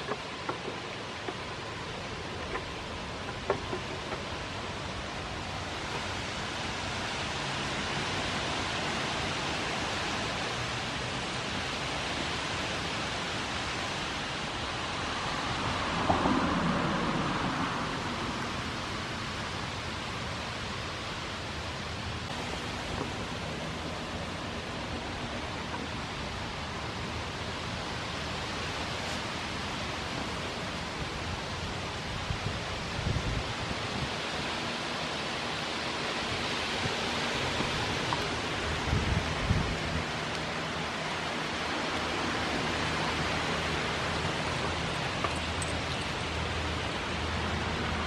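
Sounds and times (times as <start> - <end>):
outdoor background hiss: 0.0 - 48.0.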